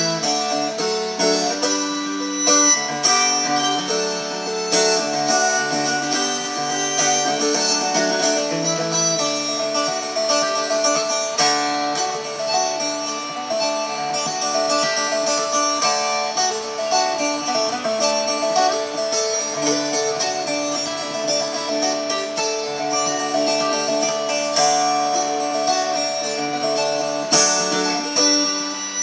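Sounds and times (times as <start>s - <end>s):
plucked string folk tune: 0.0s - 29.0s.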